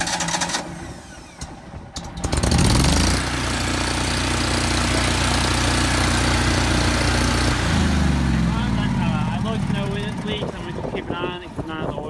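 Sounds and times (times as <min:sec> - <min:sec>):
gasoline engine starting and running: 0:00.0 - 0:12.0.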